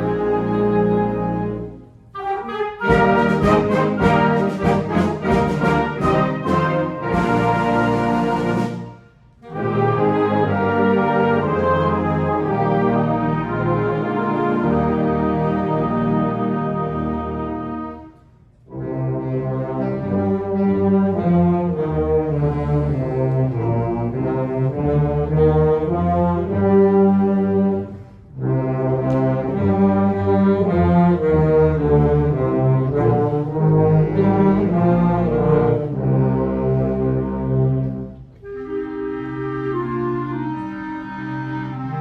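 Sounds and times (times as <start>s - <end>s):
concert band playing carols: 0.0s - 18.1s, 18.7s - 42.0s.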